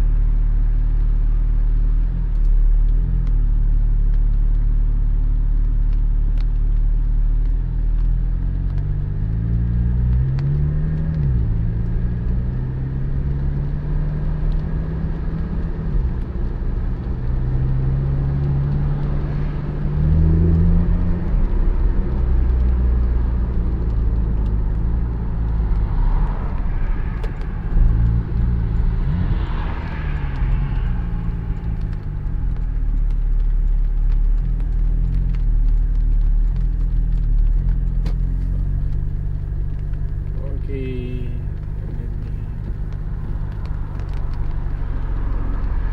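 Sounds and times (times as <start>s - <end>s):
car engine accelerating through gears: 0.0s - 45.9s
low road rumble: 0.0s - 45.9s.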